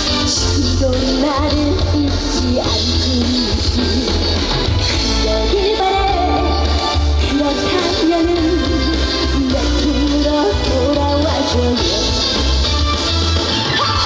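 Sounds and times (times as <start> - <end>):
instrumental pop music with heavy bass: 0.0 - 14.0.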